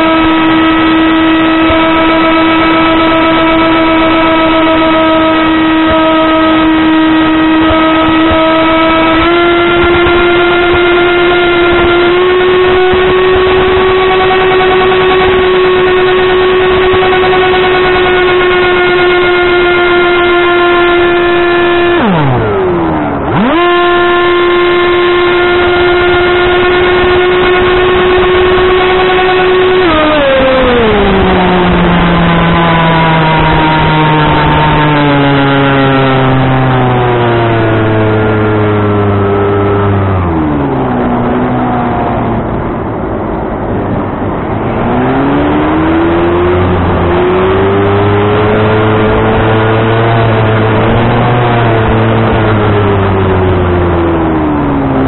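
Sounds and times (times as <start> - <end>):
electric motor propeller whine: 0.0 - 55.0.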